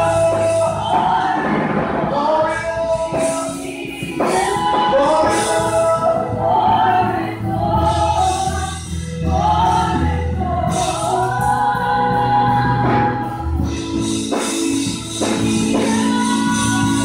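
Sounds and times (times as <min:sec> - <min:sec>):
low musical accompaniment: 0:00.0 - 0:17.0
women singing gospel: 0:00.0 - 0:17.0.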